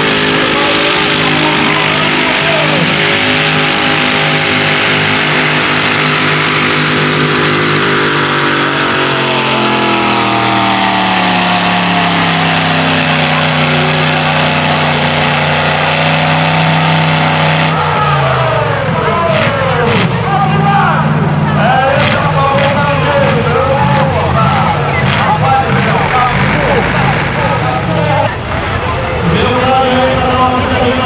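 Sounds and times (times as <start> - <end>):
tractor engine running flat out: 0.0 - 31.0.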